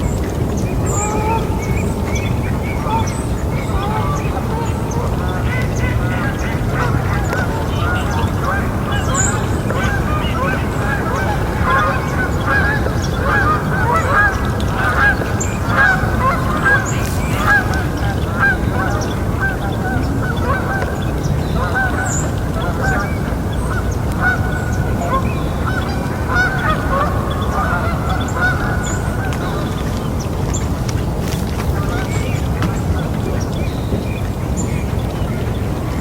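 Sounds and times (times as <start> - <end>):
flock of birds calling: 0.0 - 36.0
steady low background noise: 0.0 - 36.0.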